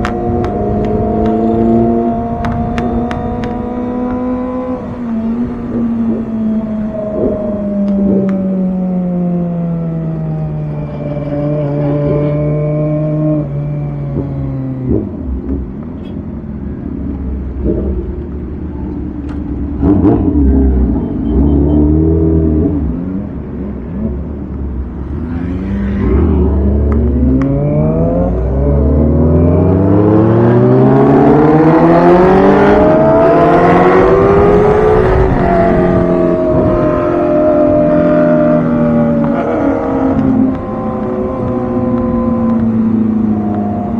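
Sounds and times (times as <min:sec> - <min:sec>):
motorcycle engine revving: 0:00.0 - 0:16.1, 0:19.7 - 0:43.9.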